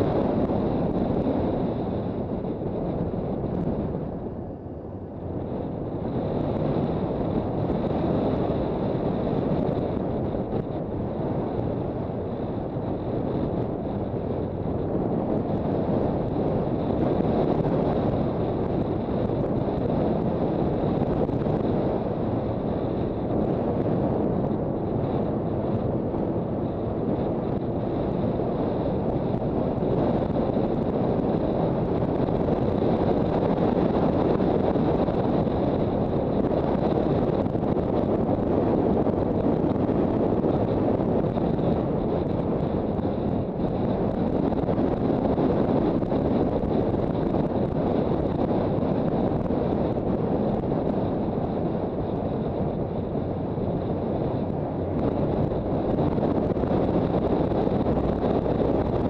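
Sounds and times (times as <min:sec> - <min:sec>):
road noise: 0:00.0 - 0:59.0
wind rushing over microphone: 0:00.0 - 0:59.0.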